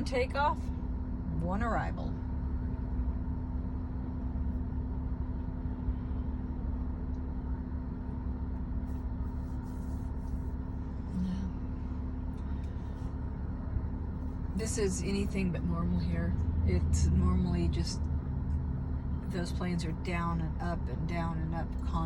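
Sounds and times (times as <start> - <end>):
engine rumble: 0.0 - 22.0.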